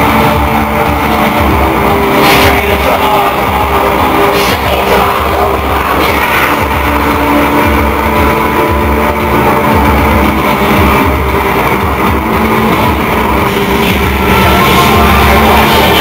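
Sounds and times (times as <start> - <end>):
distorted industrial band music: 0.0 - 16.0
grinding synth drone: 0.0 - 16.0
heavy low bass pulse: 0.0 - 16.0.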